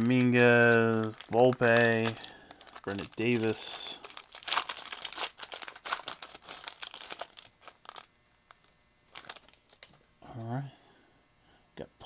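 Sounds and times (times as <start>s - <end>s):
foil wrapper crinkling and tearing: 0.0s - 10.0s
wrapper rustle: 0.0s - 10.0s.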